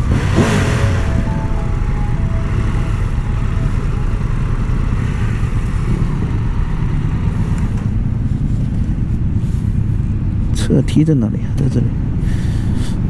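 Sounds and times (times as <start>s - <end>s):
motorcycle engine rumbling: 0.0s - 12.9s.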